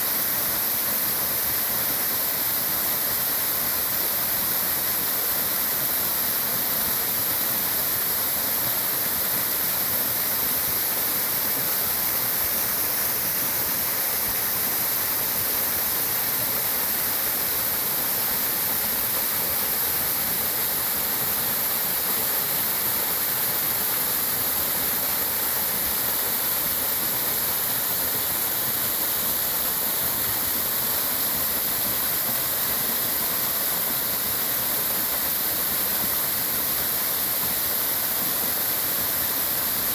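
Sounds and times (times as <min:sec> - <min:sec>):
waterfall rushing: 0:00.2 - 0:35.5.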